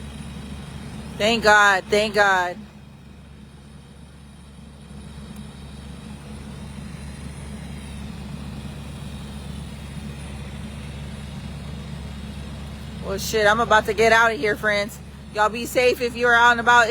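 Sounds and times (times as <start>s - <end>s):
low engine rumble: 0.0s - 16.9s.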